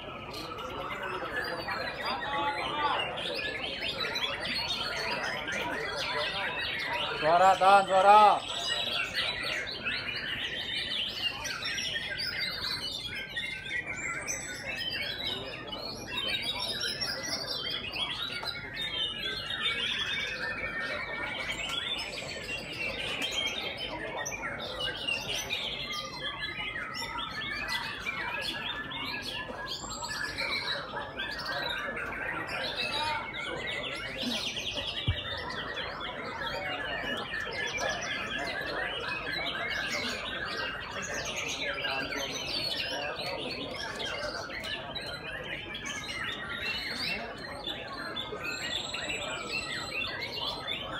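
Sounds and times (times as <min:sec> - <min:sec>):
many birds singing: 0:00.0 - 0:50.9.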